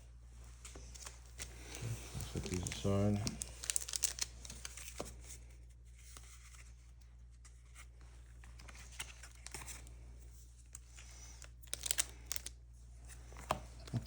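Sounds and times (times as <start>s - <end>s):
cards and foil wrappers rustling: 0.5s - 7.5s, 8.2s - 14.0s.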